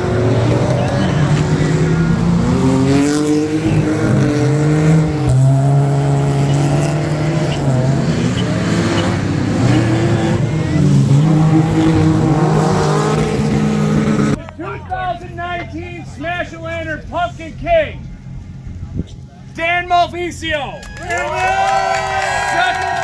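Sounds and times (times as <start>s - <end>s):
car engines revving: 0.0s - 19.6s.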